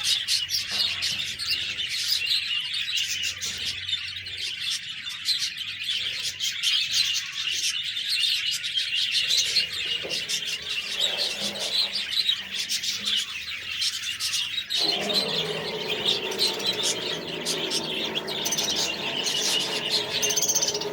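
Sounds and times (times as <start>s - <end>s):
budgerigars chirping and warbling: 0.0s - 20.9s.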